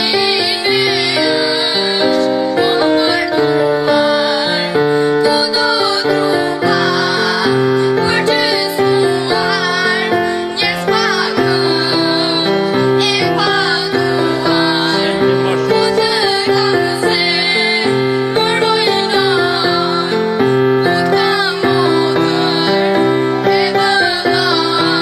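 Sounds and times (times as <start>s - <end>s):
girls singing together: 0.0s - 25.0s
instrumental backing music: 0.0s - 25.0s.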